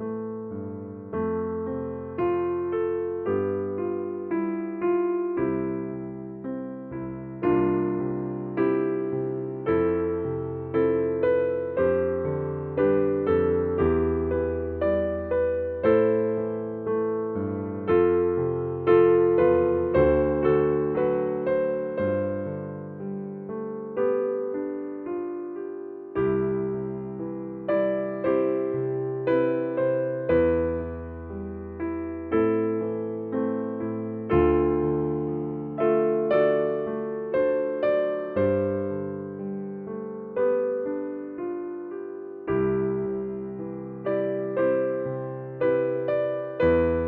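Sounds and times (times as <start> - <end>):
soft electric piano chords: 0.0 - 47.0.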